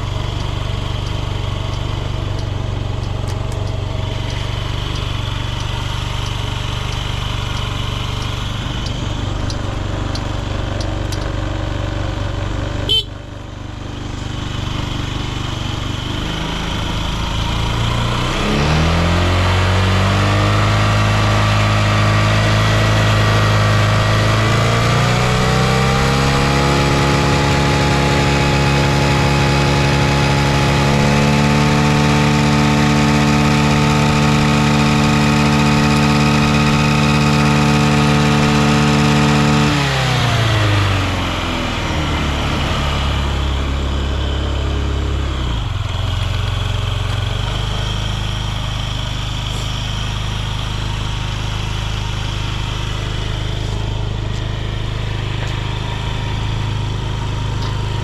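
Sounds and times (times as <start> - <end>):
scooter engine revving and idling: 0.0 - 58.0.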